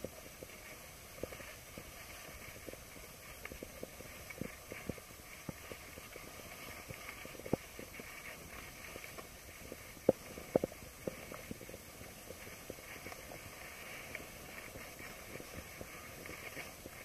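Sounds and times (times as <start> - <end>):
skis sliding over snow: 0.0 - 17.0.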